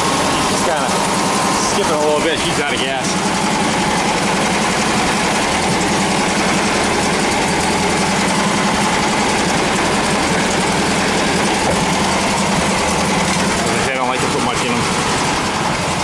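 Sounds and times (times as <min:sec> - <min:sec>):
engine idling and skipping: 0:00.0 - 0:16.0.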